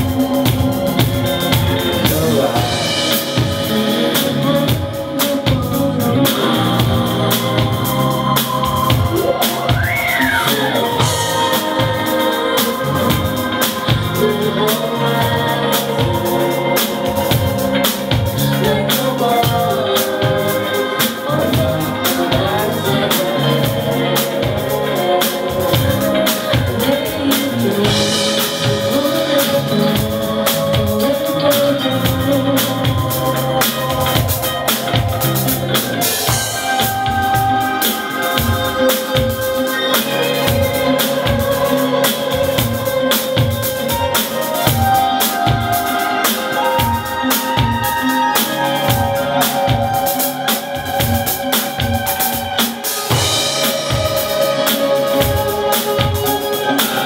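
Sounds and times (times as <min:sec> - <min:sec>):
drum kit beat: 0:00.0 - 0:57.0
organ-like keyboard chords: 0:00.0 - 0:57.0.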